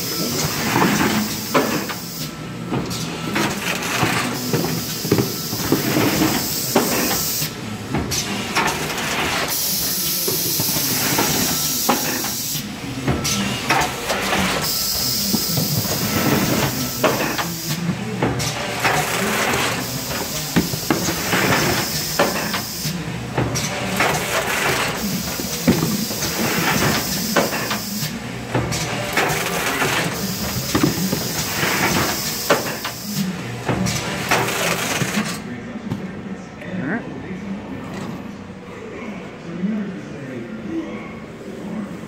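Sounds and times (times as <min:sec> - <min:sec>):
air cylinders hissing and clacking: 0:00.0 - 0:35.5.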